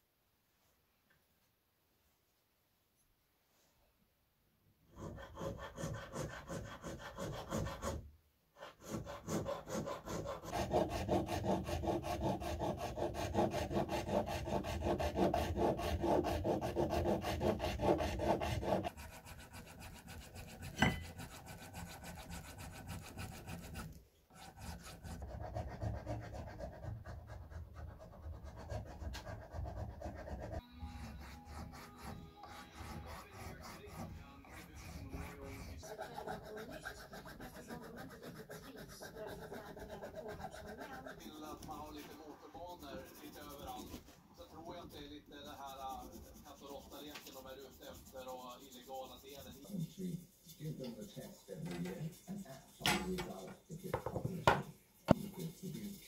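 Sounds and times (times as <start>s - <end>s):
hand file strokes: 4.9s - 56.0s.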